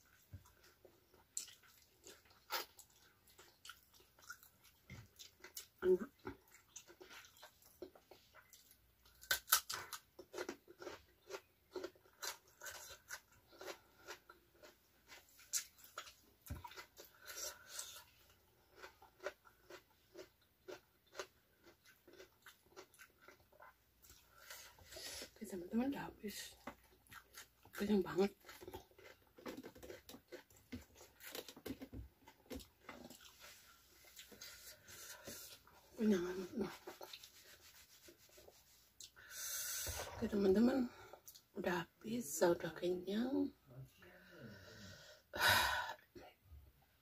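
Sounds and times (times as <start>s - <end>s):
chewing crunchy raw vegetables: 0.1s - 25.4s, 26.4s - 39.2s.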